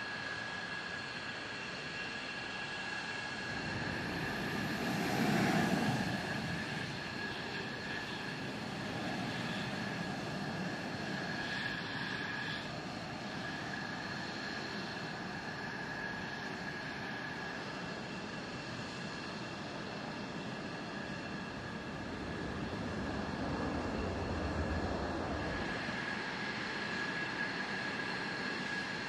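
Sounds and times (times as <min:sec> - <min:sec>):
fighter jet engines idling: 0:00.0 - 0:29.0.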